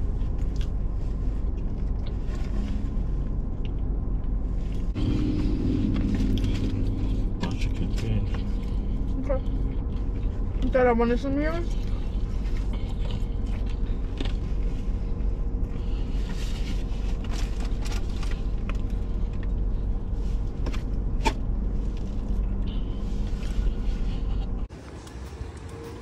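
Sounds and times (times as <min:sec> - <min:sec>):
low vehicle rumble: 0:00.0 - 0:26.0.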